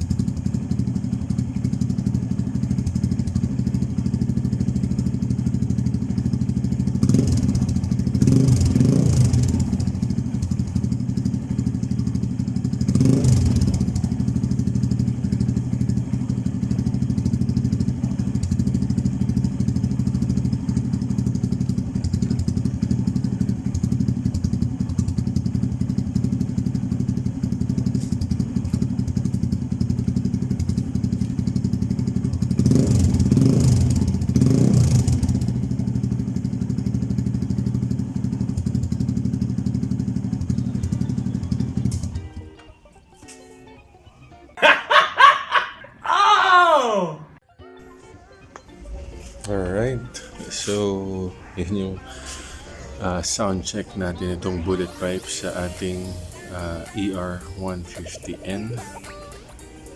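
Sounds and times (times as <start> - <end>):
motorcycle engine idling: 0.0 - 44.6, 48.0 - 59.9.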